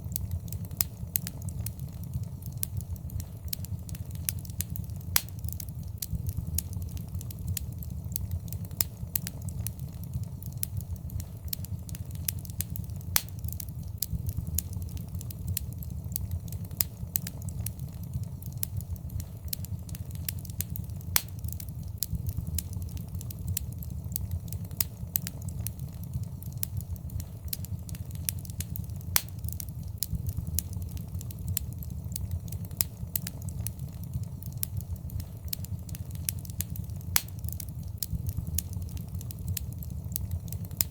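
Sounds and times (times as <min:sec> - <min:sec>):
steady low rumble: 0:00.0 - 0:40.9
wood fire crackling and popping: 0:00.0 - 0:40.9.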